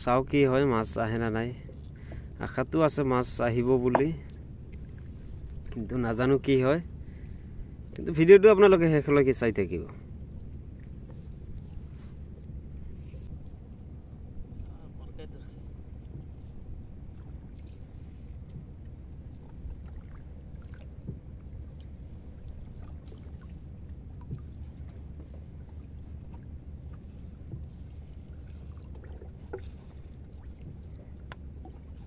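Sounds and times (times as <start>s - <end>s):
steady low rumble: 1.8s - 32.0s.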